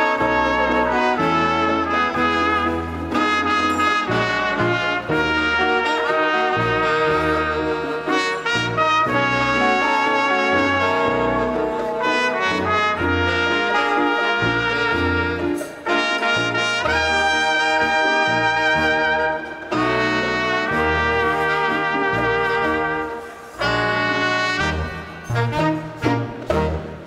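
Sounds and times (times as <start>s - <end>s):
latin dance orchestra: 0.0s - 27.0s
trumpets and trombones melody: 0.0s - 27.0s.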